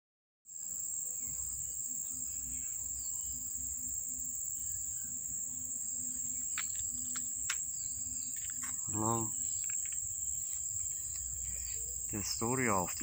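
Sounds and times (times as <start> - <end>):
insect chorus drone: 0.5 - 13.0.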